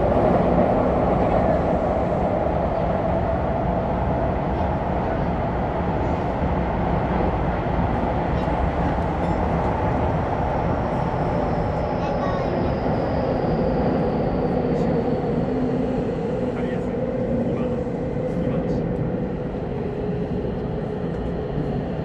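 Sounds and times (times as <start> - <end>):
subway train rumbling in tunnel: 0.0 - 22.0.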